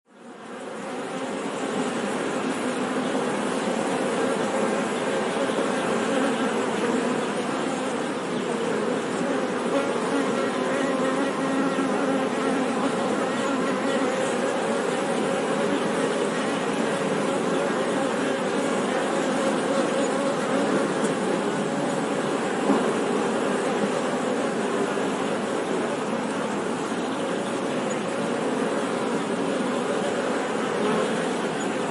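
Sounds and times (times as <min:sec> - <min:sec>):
honey bees buzzing: 0:00.2 - 0:31.9.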